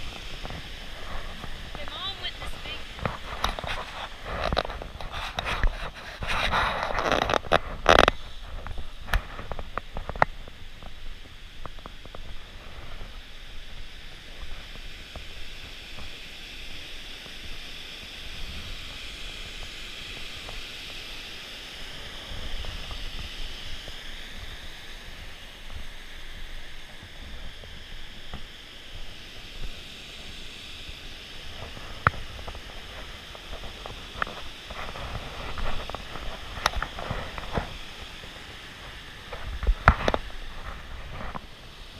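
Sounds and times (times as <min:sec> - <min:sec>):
stream running over rock: 0:00.0 - 0:41.9.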